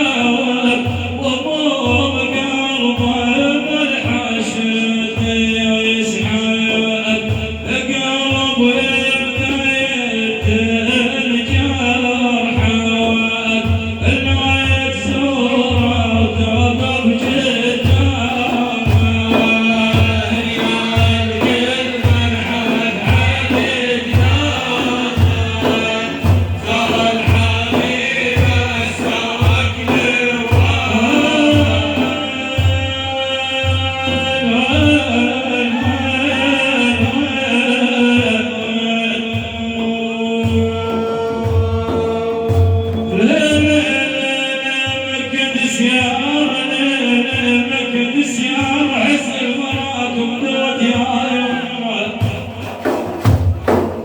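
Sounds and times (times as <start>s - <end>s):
man chanting devotional song: 0.0s - 54.0s
steady low drum beat: 0.0s - 54.0s.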